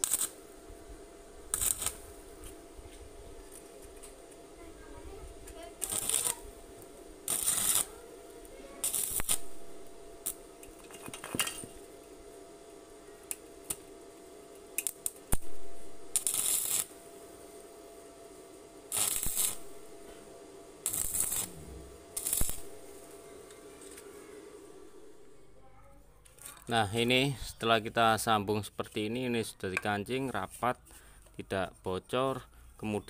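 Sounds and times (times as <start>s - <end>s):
arc welder crackling sizzles: 0.0s - 33.0s
steady low hum: 0.0s - 33.0s.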